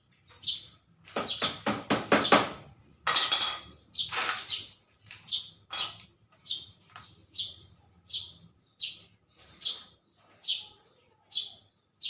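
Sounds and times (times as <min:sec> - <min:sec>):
small bird chirping: 0:00.0 - 0:02.5, 0:03.6 - 0:12.0.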